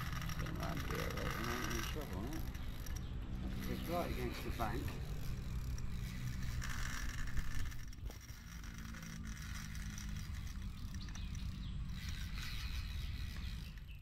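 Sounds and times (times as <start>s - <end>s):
fishing reel being cranked: 0.0s - 14.0s.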